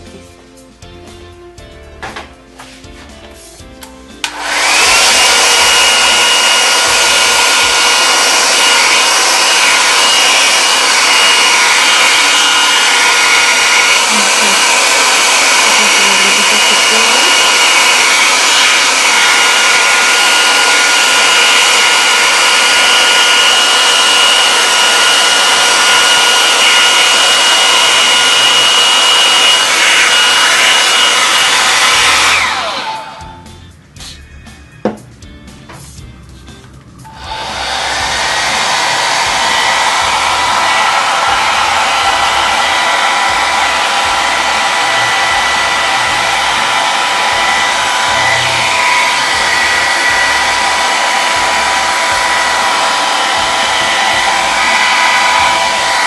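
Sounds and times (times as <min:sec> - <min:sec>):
hot-air dryer blowing: 0:04.1 - 0:33.5, 0:37.1 - 0:56.0.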